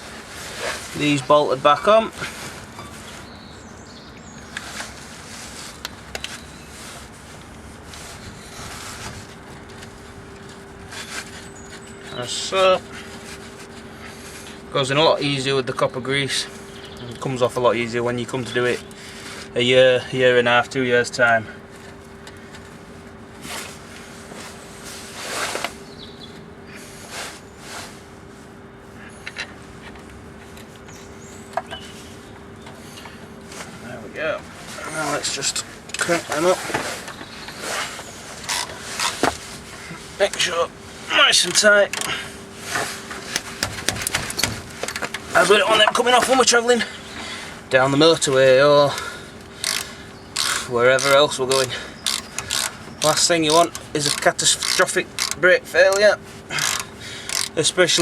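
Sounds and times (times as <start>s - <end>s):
steady low hum: 0.0s - 58.0s
bolts clicking and scraping: 4.2s - 20.5s, 21.1s - 27.9s, 29.1s - 58.0s.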